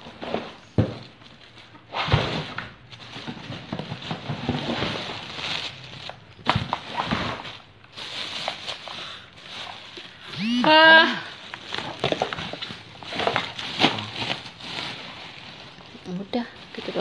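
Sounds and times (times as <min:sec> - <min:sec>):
cardboard rustling: 0:00.0 - 0:10.8, 0:11.4 - 0:17.0
plastic wrapping crinkling: 0:00.0 - 0:17.0.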